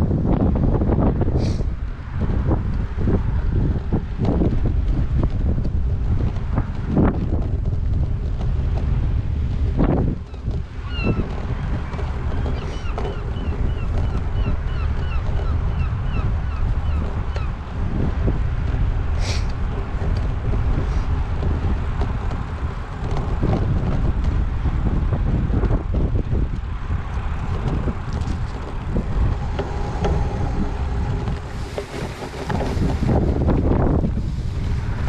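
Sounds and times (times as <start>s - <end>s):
wind buffeting microphone: 0.0s - 35.0s
bike knocks and rattles: 2.5s - 35.0s.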